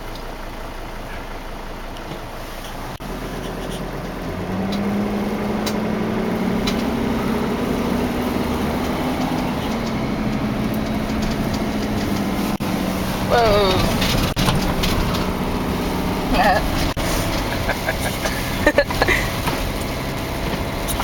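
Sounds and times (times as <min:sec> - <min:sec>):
diesel van engine running: 0:00.0 - 0:21.0.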